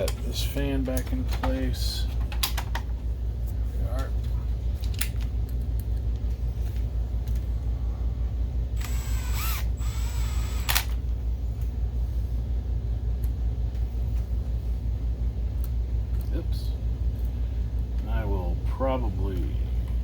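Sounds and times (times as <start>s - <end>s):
low hum: 3.0s - 20.0s.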